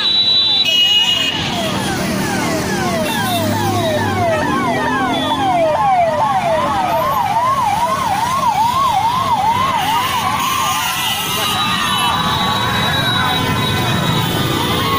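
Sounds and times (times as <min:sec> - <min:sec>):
fast cycling electronic siren: 0:00.0 - 0:14.9
passing traffic: 0:00.0 - 0:14.9.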